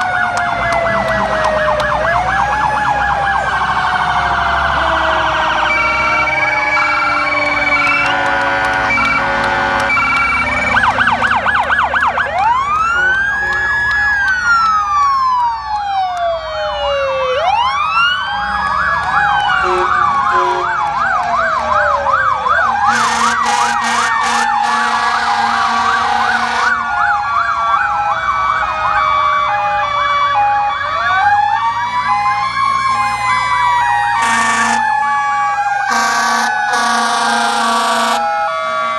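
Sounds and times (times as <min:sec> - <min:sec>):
fast yelping sirens: 0:00.0 - 0:38.9
two-tone hi-lo siren: 0:00.0 - 0:38.9
wailing sirens: 0:00.0 - 0:38.9.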